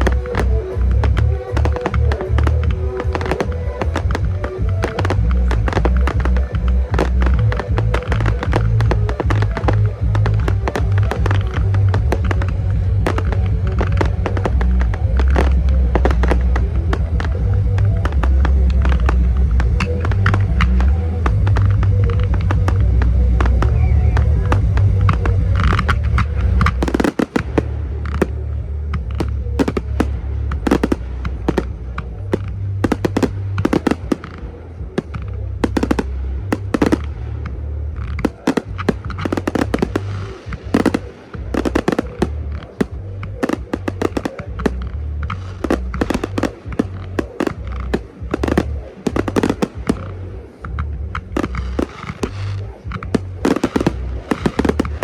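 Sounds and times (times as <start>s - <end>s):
deep low rumble: 0.0s - 55.0s.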